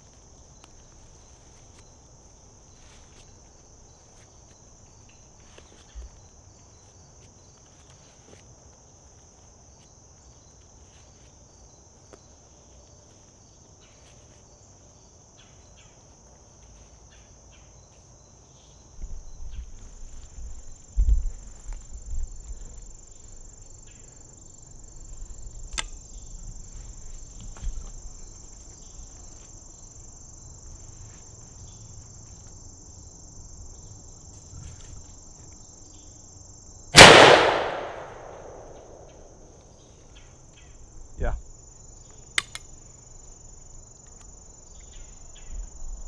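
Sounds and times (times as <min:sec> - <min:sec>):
faint ticks and rustles: 0:00.0 - 0:36.4, 0:39.5 - 0:46.0
high-pitched insect chorus: 0:00.0 - 0:46.0.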